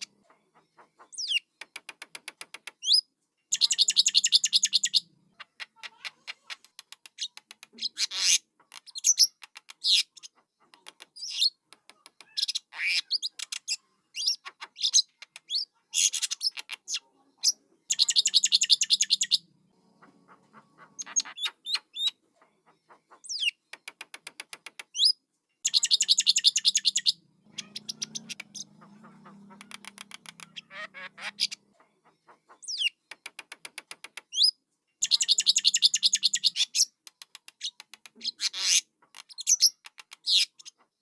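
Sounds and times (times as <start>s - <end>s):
bird chicks chirping: 0.0s - 41.0s.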